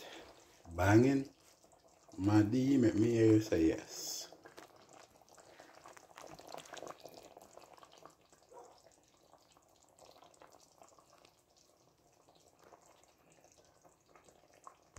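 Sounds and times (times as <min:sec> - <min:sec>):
stew bubbling and popping: 0:00.0 - 0:14.9.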